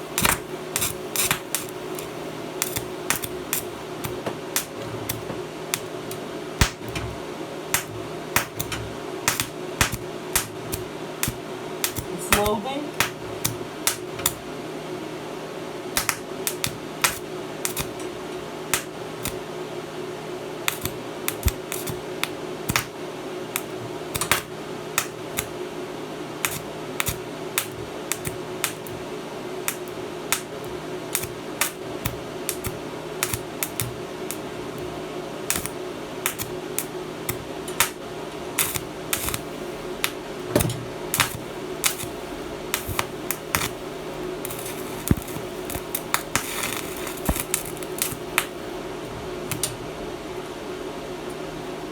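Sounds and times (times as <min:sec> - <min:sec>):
welding arc crackling and popping: 0:00.0 - 0:14.6, 0:15.8 - 0:51.9
steady hum: 0:00.0 - 0:51.9.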